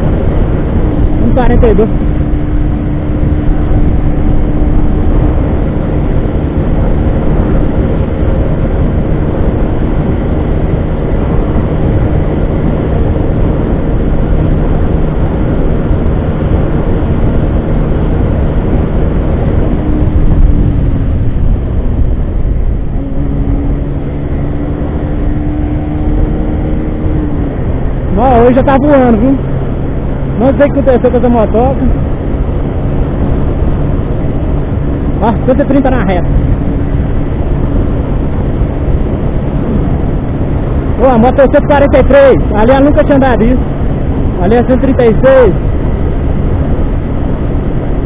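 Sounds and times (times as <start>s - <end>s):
motorcycle engine high drone: 0.0s - 48.0s
wind rush on microphone: 0.0s - 48.0s.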